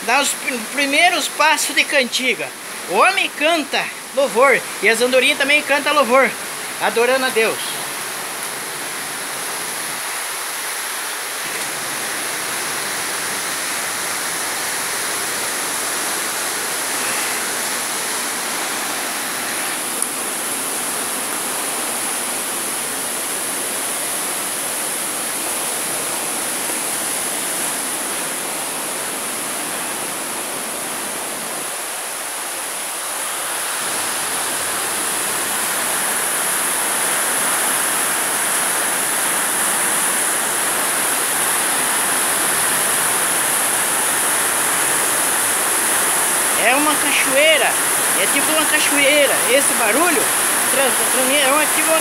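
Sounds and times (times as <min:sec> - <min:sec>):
stream rushing through rock gorge: 0:00.0 - 0:52.0.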